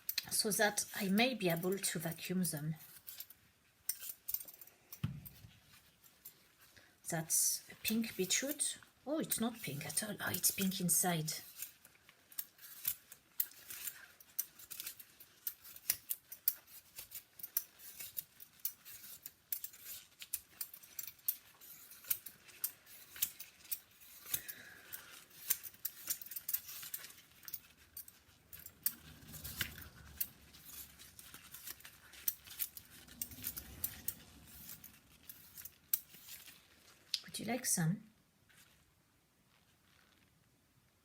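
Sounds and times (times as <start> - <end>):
beetroot being peeled by hand: 0.0 - 37.4.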